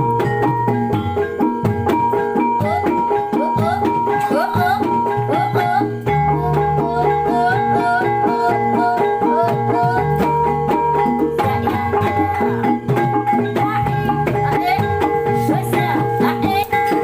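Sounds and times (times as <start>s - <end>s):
drum and gong rhythm: 0.0s - 17.0s
sliding melody with held tones: 0.0s - 17.0s.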